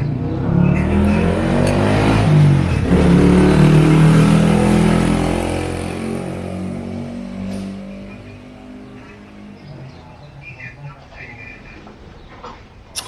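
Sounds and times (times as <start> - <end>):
vehicle engine passing: 0.0 - 11.9.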